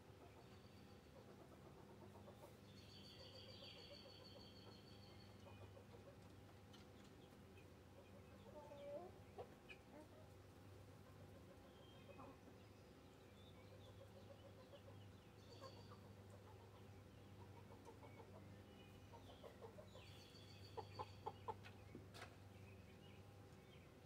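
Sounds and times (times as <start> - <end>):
chickens clucking softly: 0.0 - 24.0.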